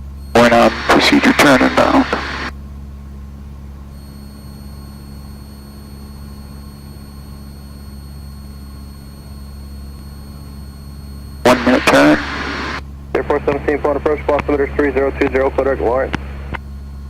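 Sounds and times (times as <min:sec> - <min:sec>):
aircraft piston engine droning: 0:00.0 - 0:02.6, 0:03.3 - 0:17.0.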